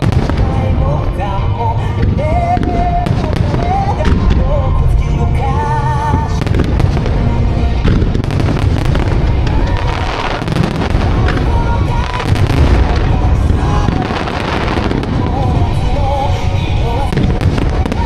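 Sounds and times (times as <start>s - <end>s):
fireworks booming and crackling: 0.0s - 18.0s
pop song with singing: 0.0s - 18.0s.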